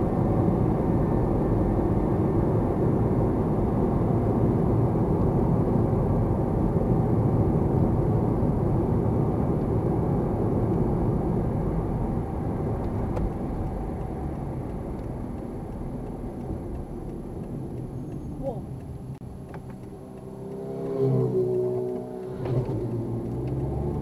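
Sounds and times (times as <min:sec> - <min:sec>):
car road noise inside cabin: 0:00.0 - 0:24.0.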